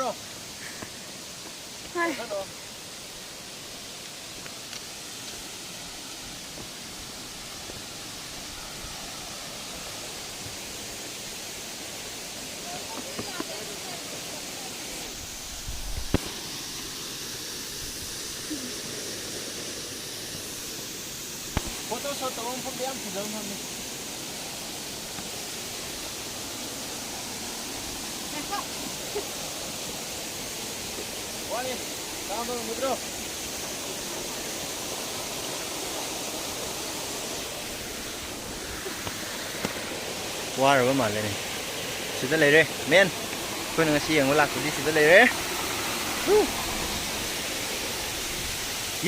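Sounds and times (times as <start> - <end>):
waterfall rushing water: 0.0 - 49.0.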